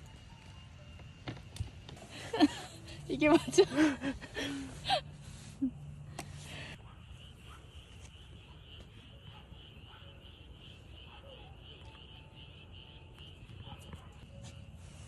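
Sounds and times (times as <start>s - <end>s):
insects chirping: 2.0s - 15.0s.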